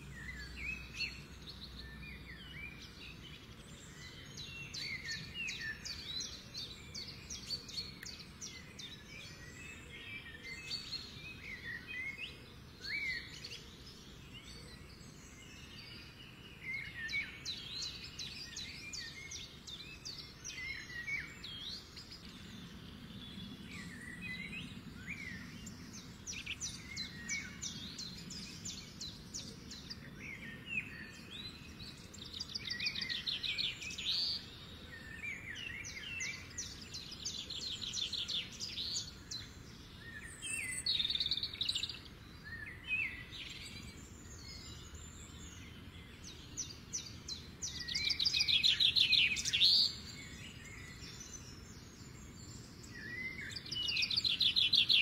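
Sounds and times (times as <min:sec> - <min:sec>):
birds trilling and chirping: 0:02.4 - 0:55.0.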